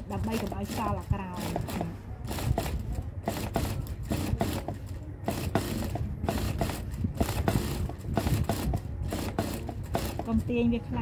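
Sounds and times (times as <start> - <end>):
sewing machine motor hum: 0.0 - 10.6.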